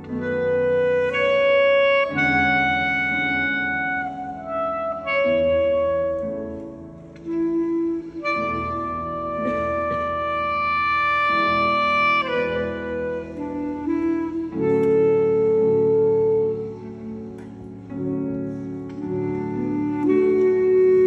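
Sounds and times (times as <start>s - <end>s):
clarinet playing slow classical melody: 0.0s - 21.0s.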